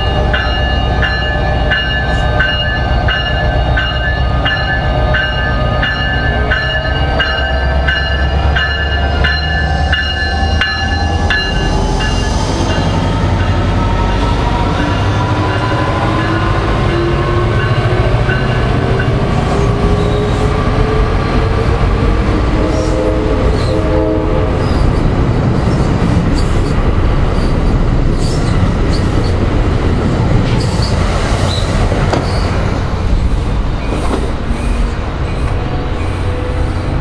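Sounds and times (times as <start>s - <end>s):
train wheels clicking and squealing: 0.0s - 21.0s, 22.6s - 23.8s, 24.6s - 29.4s, 30.5s - 32.7s, 33.3s - 37.0s
diesel locomotive engine accelerating: 0.0s - 37.0s
train rolling rumble: 0.0s - 37.0s.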